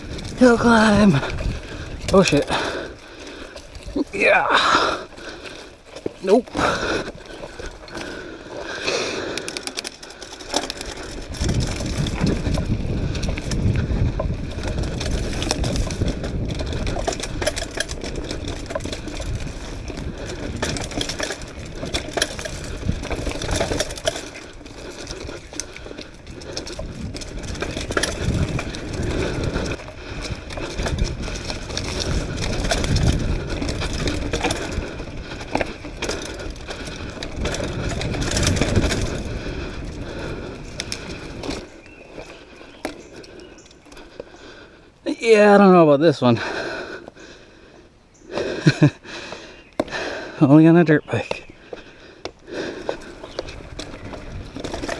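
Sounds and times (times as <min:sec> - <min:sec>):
bike rattling and clicking: 0:00.0 - 0:54.9
bike tyres rolling over dirt: 0:00.0 - 0:54.9.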